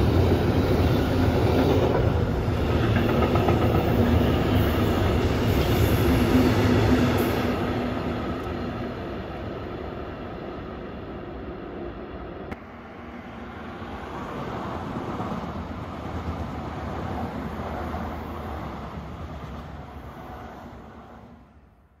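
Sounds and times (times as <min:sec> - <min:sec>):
train wheels rumbling on track: 0:00.0 - 0:21.4.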